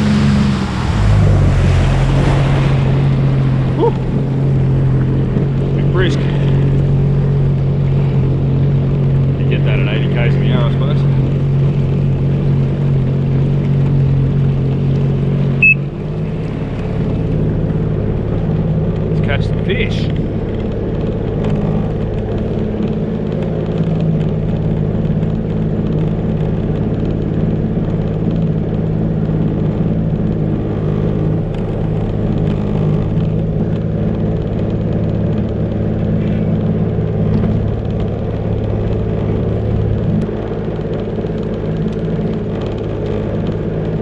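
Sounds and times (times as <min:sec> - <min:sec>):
jet ski engine running: 0:00.0 - 0:44.0.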